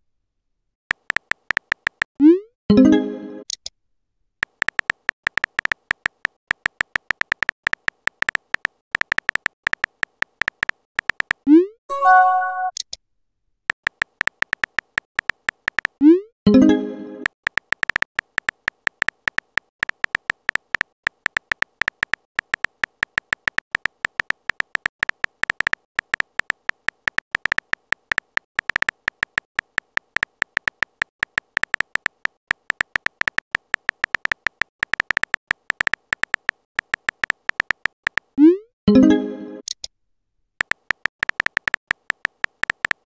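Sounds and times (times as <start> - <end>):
clicky keyboard typing beeps: 0.9 - 3.7, 4.4 - 12.9, 13.8 - 39.9, 40.6 - 43.0.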